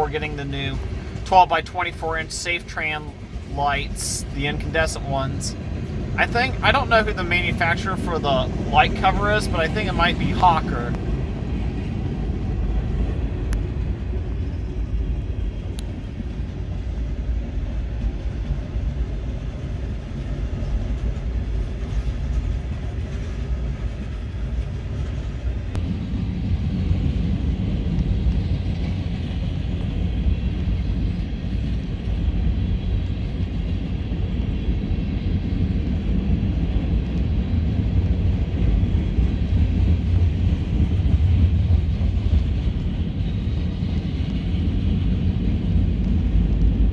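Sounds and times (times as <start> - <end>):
freight train wheels rumbling on rail: 0.0 - 46.9.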